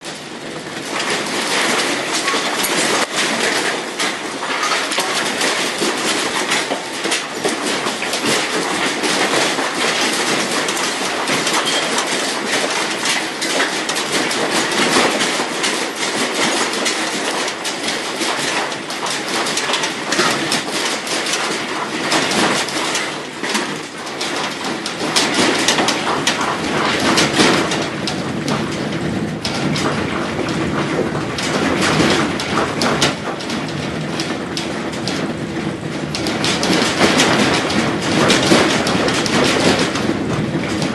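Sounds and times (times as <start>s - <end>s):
objects rattling in earthquake: 0.0s - 40.9s.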